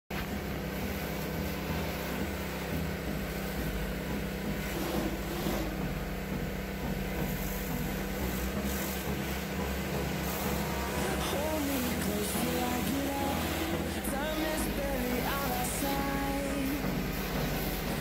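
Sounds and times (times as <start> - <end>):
pressure washer motor hum: 0.1 - 18.0
water jet spraying onto metal: 0.2 - 6.4, 7.2 - 18.0.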